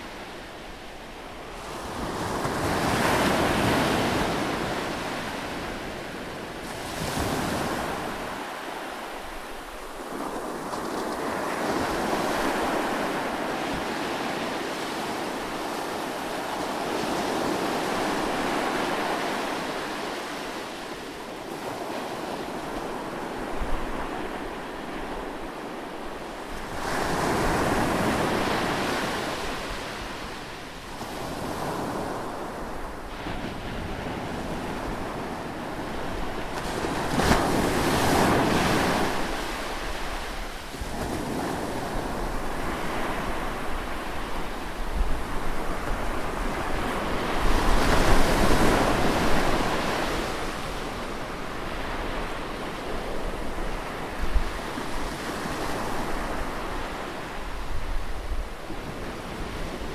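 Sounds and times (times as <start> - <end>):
waves rushing: 0.0 - 59.9.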